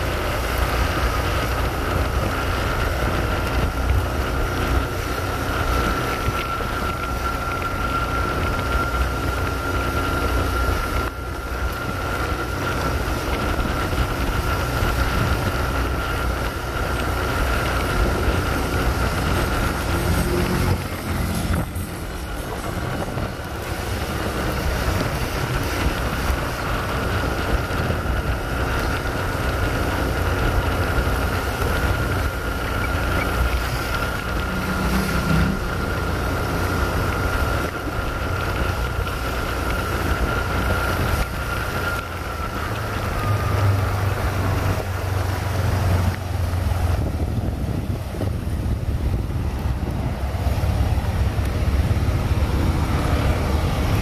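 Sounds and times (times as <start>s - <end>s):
low rumble of road traffic: 0.0s - 54.0s
motor vehicle running: 0.0s - 54.0s
wind on microphone: 0.0s - 54.0s.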